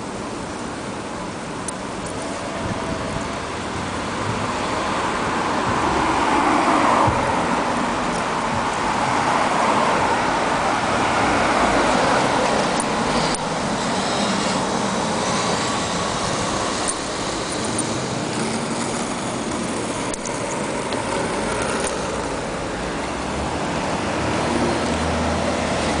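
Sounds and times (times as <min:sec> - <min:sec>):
cars passing: 0:00.0 - 0:26.0
engine and tyre noise: 0:00.0 - 0:26.0.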